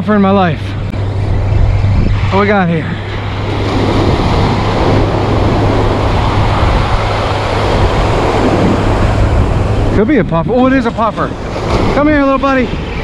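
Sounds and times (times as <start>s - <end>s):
ocean surf breaking on sand: 2.2s - 13.0s.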